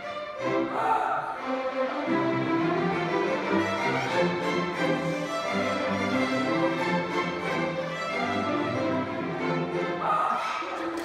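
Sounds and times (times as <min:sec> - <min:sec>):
string orchestra playing: 0:00.0 - 0:11.0.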